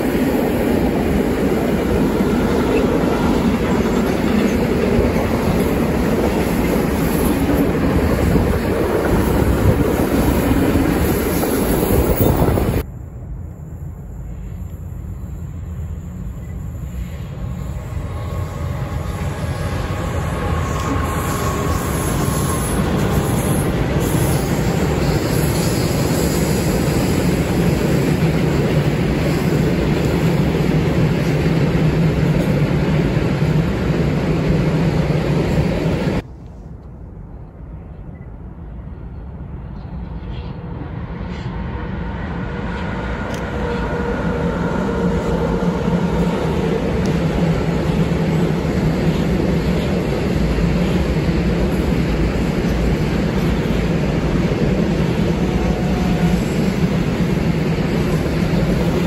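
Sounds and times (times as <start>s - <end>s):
freight train wheels rumbling on rail: 0.0s - 36.9s, 39.6s - 59.0s.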